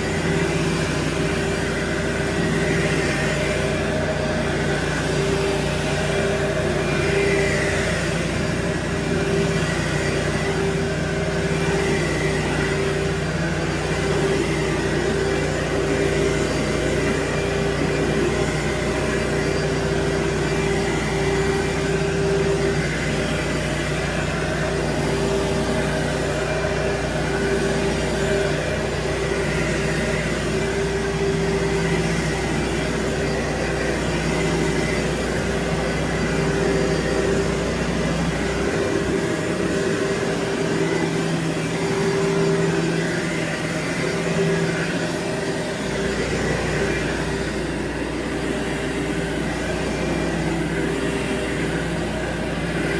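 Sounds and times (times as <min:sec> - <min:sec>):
carpet cleaning machine drone: 0:00.0 - 0:52.9.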